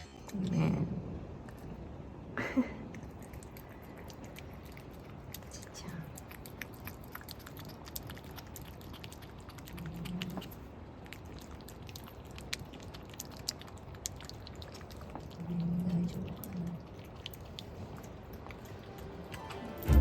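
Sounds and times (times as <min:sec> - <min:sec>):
cat chewing food: 0:02.8 - 0:20.0.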